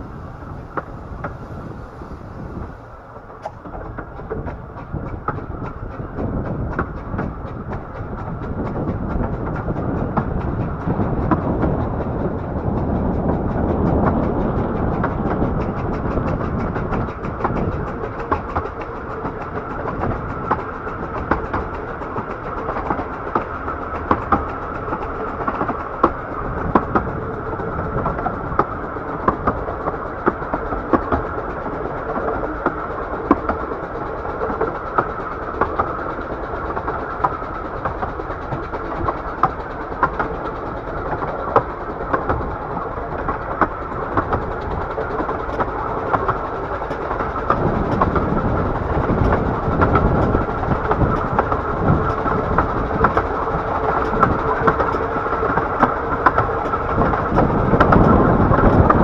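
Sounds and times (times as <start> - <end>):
carriages rattling: 0.0 - 59.0
train wheels clicking over rail joints: 0.0 - 59.0.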